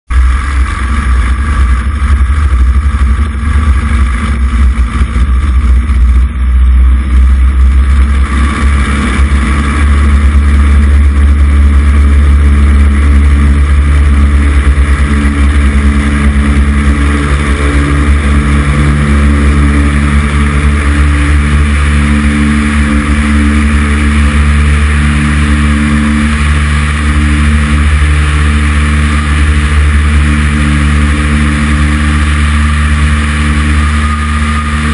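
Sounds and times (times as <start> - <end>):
light aircraft engine drone: 0.1 - 34.9.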